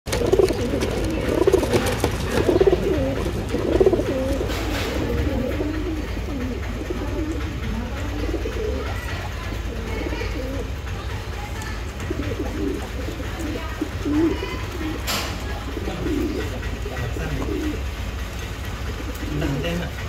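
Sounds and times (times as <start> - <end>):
pigeon cooing: 0.1 - 20.0
steady low hum: 0.1 - 20.0.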